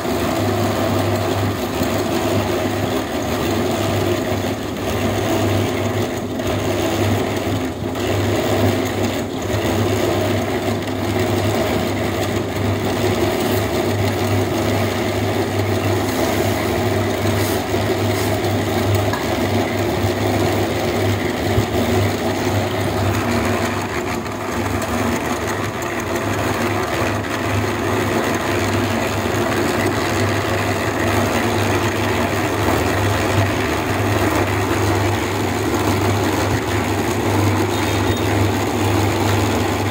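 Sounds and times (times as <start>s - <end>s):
concrete mixer humming: 0.0s - 39.9s.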